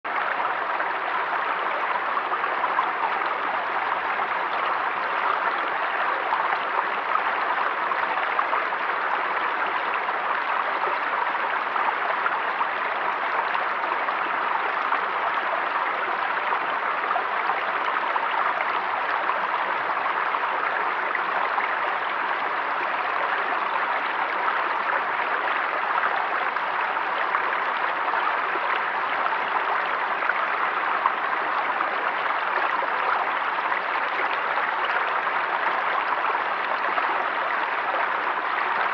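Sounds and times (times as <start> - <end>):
stream running over stones: 0.1 - 38.9.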